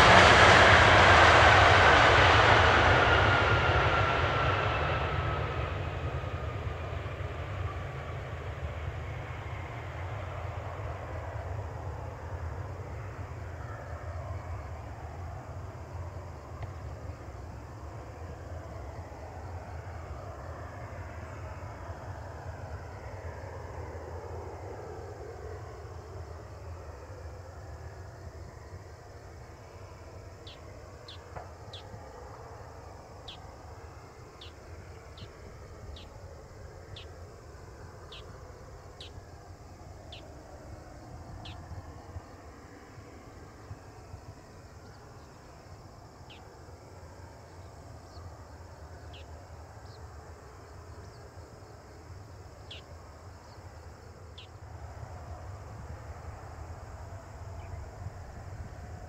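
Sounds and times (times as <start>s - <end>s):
jet engine whine: 0.0s - 59.0s
low engine rumble: 0.0s - 59.0s.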